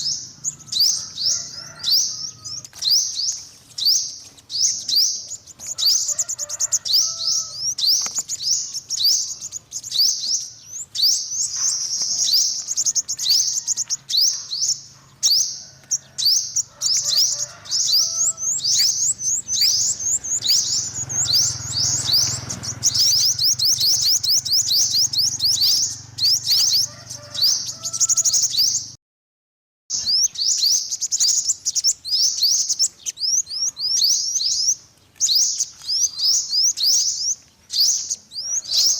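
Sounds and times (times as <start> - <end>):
sunbird twittering: 0.0 - 28.9, 29.9 - 38.9.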